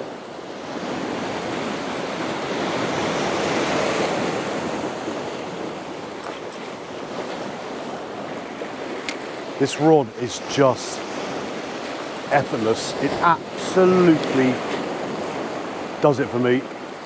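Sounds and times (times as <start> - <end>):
surf breaking over rocks: 1.2 - 16.9.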